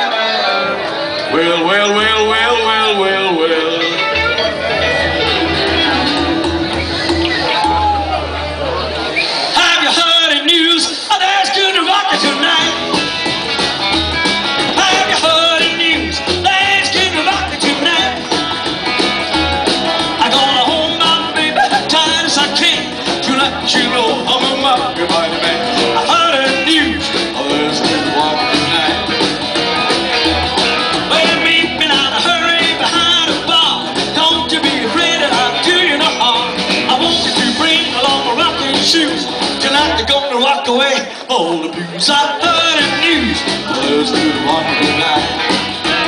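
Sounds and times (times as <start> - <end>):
acoustic guitar: 0.0 - 46.0
electric guitar: 0.0 - 46.0
upright double bass: 0.6 - 9.8, 10.6 - 40.2, 41.5 - 46.0.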